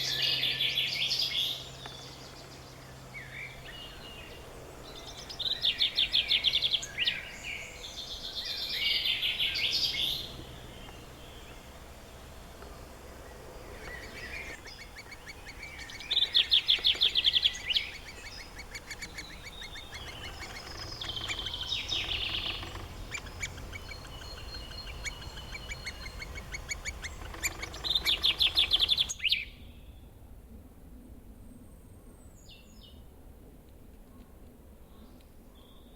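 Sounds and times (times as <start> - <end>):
quieter bird warbling: 0.0 - 29.2
songbird trilled phrases: 0.0 - 29.2.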